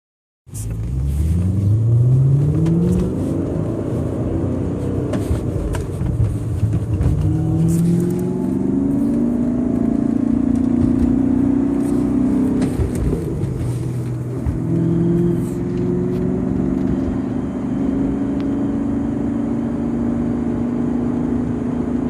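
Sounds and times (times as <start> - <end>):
car engine accelerating: 0.5 - 22.0.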